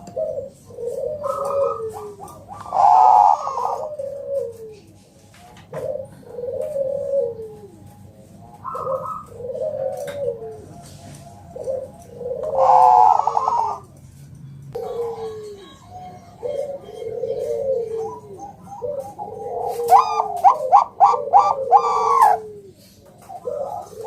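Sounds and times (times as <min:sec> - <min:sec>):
dove cooing: 0:00.0 - 0:14.0, 0:14.7 - 0:24.0.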